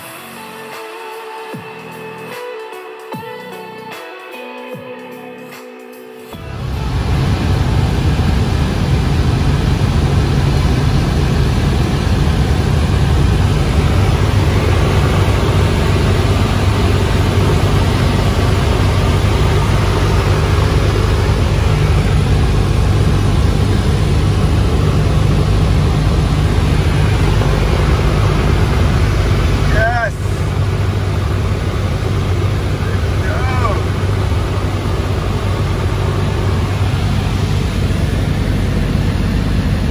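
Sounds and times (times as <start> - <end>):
airplane engine and propeller drone: 6.3 - 39.9.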